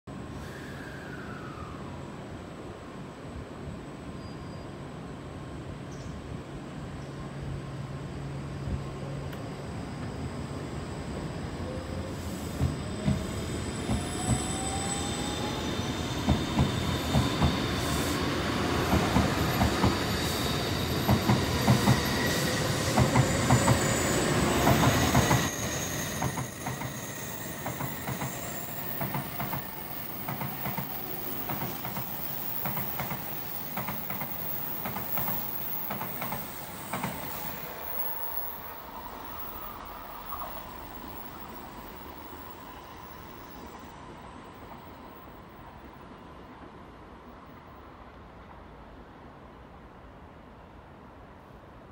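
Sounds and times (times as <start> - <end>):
train whine rising in pitch: 0.1 - 3.0, 7.5 - 46.3
train rolling noise: 5.2 - 50.4.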